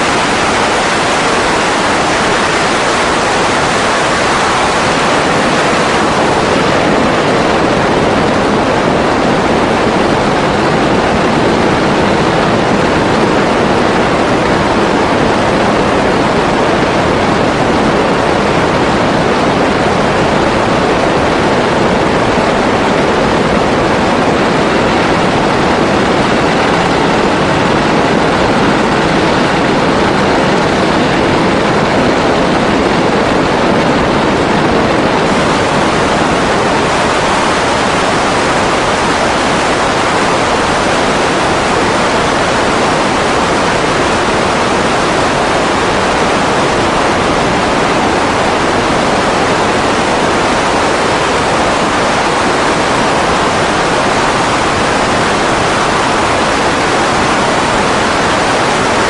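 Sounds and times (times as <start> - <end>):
plane engine and propeller running: 0.0 - 59.0.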